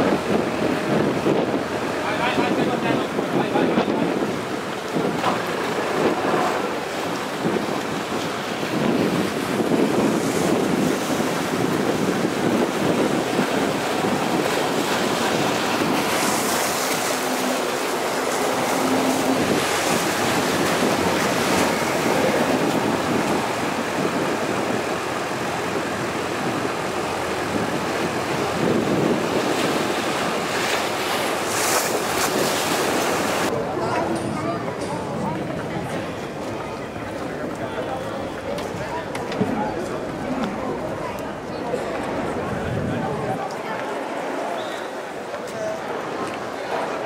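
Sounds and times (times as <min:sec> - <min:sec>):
wind buffeting microphone: 0:00.0 - 0:44.4
speedboat under way: 0:00.0 - 0:47.0
water rushing along hull: 0:00.0 - 0:47.0.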